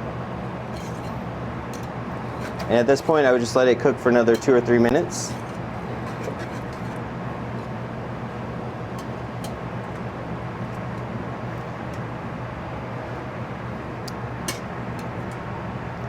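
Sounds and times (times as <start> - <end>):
kitchen background hum: 0.0 - 16.0.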